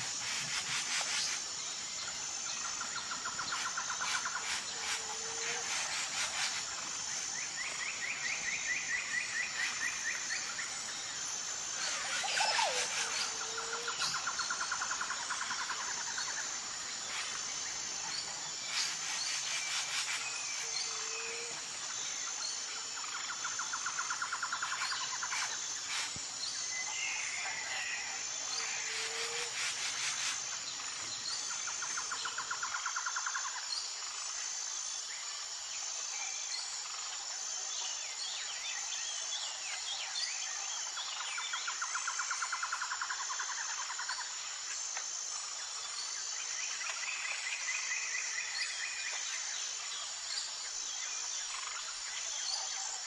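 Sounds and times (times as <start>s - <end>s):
insects chirping drone: 0.0s - 53.0s.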